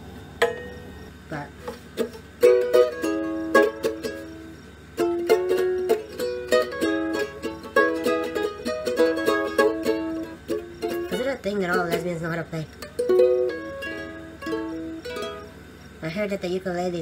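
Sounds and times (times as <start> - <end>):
ukulele strumming: 0.4 - 0.8, 1.6 - 15.6.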